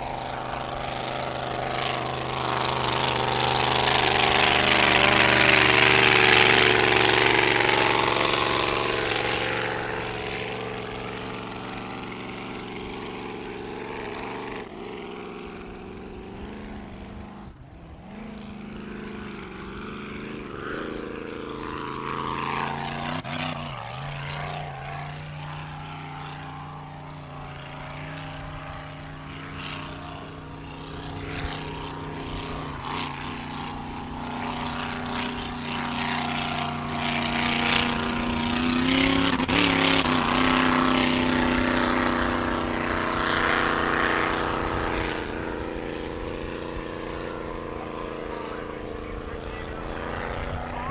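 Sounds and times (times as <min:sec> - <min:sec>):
racing boat engine: 0:00.0 - 0:50.9.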